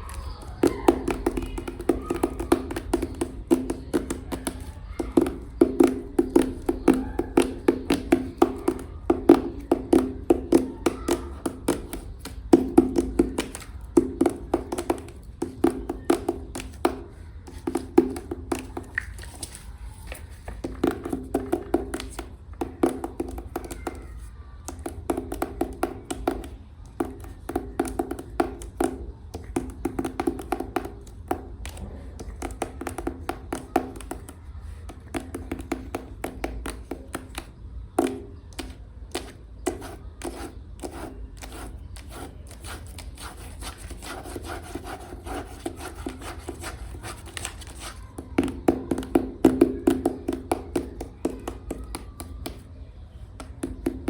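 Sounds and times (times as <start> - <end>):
fingernails tapping clay containers: 0.0 - 54.0.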